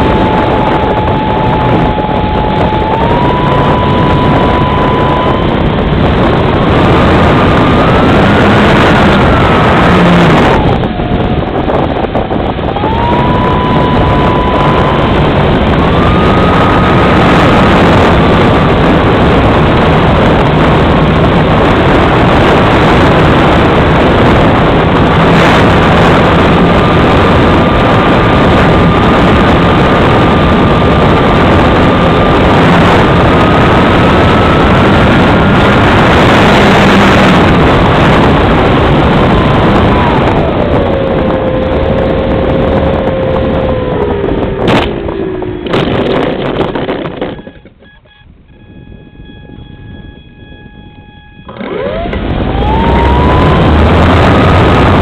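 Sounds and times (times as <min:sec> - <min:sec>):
model motor whine: 0:00.0 - 0:45.8, 0:47.1 - 0:55.0
rushing wind noise: 0:00.0 - 0:55.0.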